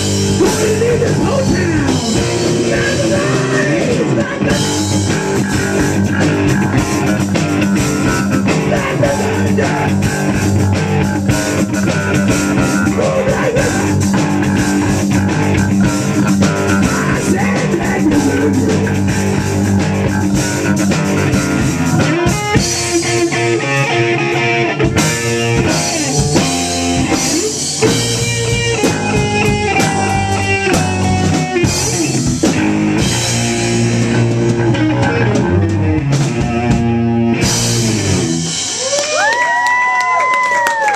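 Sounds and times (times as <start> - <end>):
bass guitar: 0.0 - 40.9
drums: 0.0 - 40.9
electric guitar: 0.0 - 40.9.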